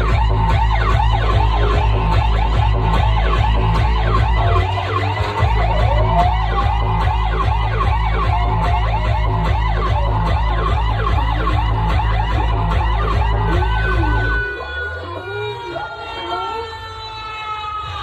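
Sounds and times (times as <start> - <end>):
heavy bass music: 0.0 - 18.0
siren-like sweeps: 0.0 - 18.0.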